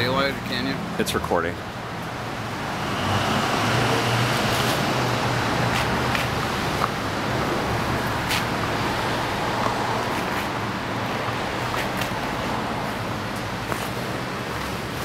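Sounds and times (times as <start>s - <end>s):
traffic noise: 0.0s - 15.0s
low engine hum: 1.7s - 15.0s.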